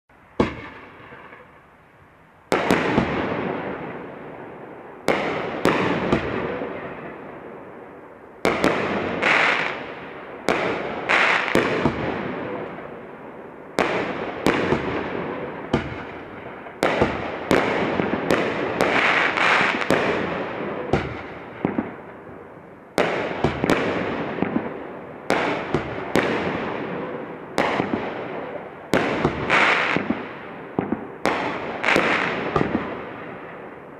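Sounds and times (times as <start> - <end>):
firework bangs: 0.4 - 1.5, 2.5 - 7.5, 8.4 - 13.1, 13.7 - 22.2, 23.0 - 33.9.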